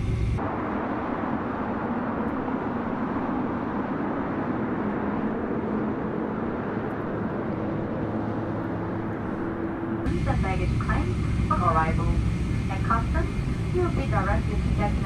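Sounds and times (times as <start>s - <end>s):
low engine tone: 0.0s - 1.2s, 1.8s - 15.0s
airplane cabin engine hum: 0.0s - 15.0s.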